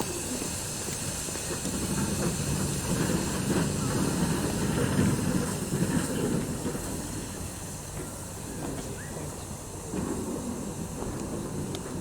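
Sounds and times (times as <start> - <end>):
steam locomotive rumble and hiss: 0.0 - 12.0.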